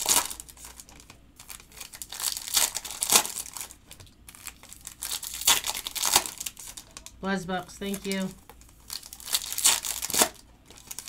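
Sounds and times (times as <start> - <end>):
foil wrappers crinkling and tearing: 0.0 - 7.2, 7.8 - 11.0.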